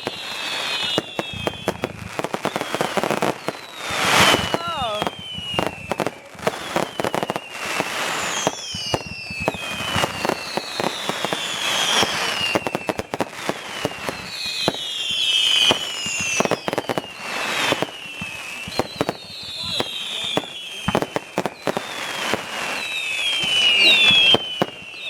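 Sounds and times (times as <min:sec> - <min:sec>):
falling firework whistles: 0:00.0 - 0:25.0
fireworks bangs and crackles: 0:00.0 - 0:25.0.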